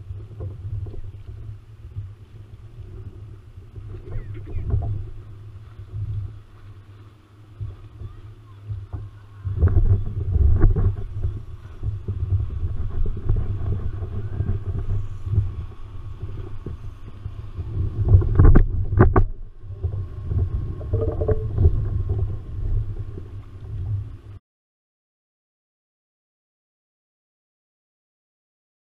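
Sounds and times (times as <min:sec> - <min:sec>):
wind buffeting microphone: 0:00.0 - 0:24.4.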